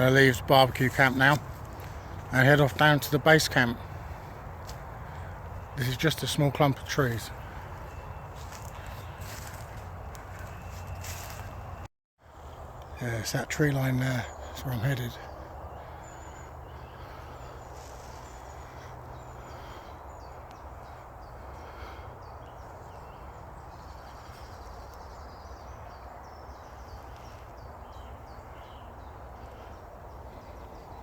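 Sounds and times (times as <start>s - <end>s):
birds chirping and singing: 0.0s - 11.8s, 12.4s - 31.0s.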